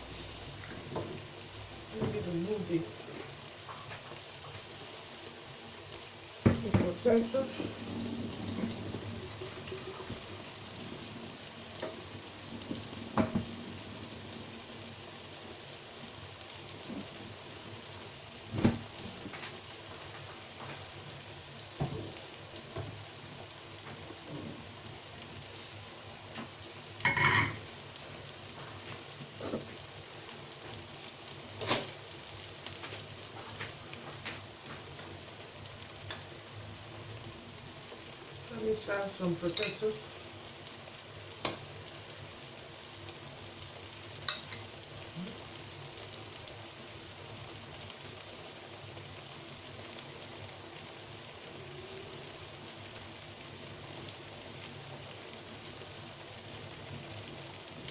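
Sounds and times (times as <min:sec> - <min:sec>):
food sizzling in hot oil: 0:00.0 - 0:57.9.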